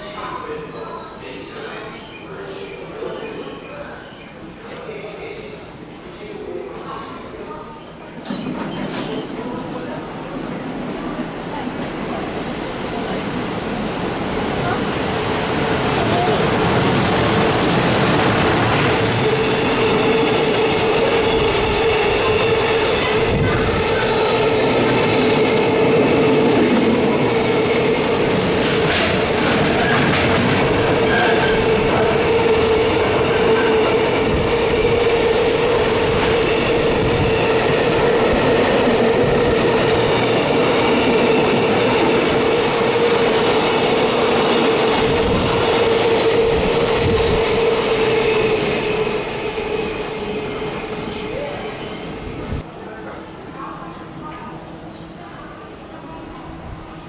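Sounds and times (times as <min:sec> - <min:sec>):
freight train wheels on rail: 0:00.0 - 0:57.0.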